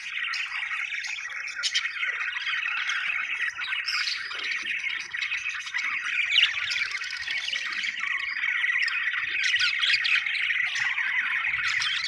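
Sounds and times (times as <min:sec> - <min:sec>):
budgerigars chirping and chattering: 0:00.0 - 0:12.0.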